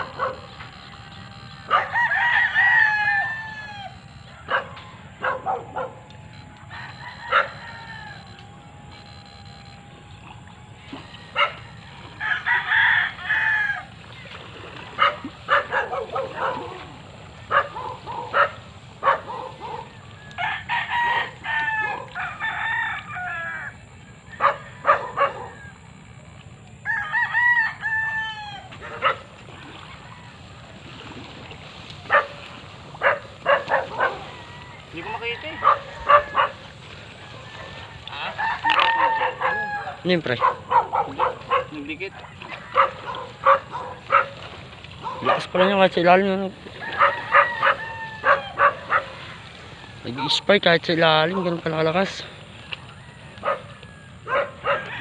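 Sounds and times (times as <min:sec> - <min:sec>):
roosters crowing: 0:00.0 - 0:26.2, 0:26.8 - 0:55.0.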